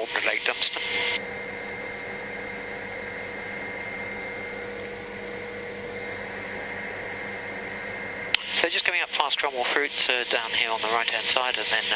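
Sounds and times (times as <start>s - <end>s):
helicopter cabin drone: 0.0s - 11.9s.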